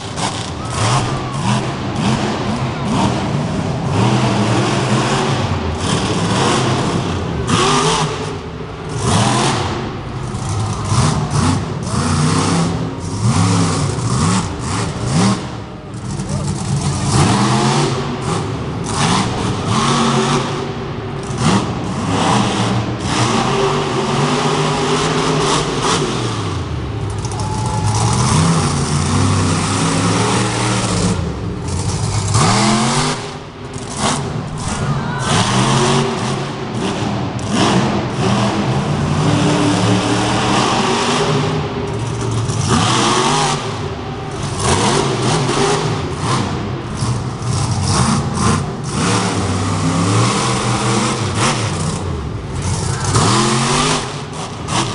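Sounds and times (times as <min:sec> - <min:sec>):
monster truck engine revving: 0:00.0 - 0:54.9.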